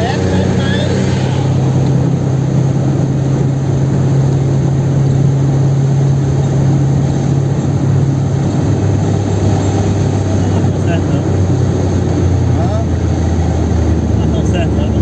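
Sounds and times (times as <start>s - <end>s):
car engine droning: 0.0s - 15.0s
road noise: 0.0s - 15.0s.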